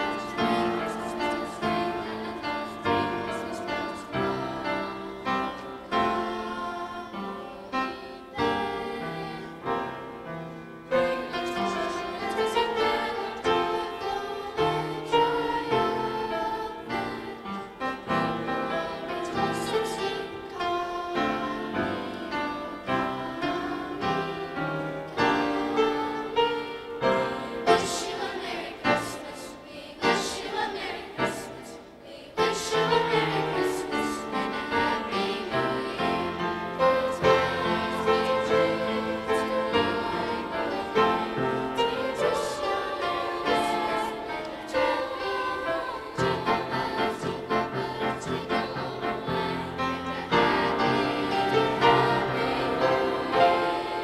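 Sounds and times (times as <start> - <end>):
choir singing: 0.0 - 54.0
upright piano: 0.0 - 54.0.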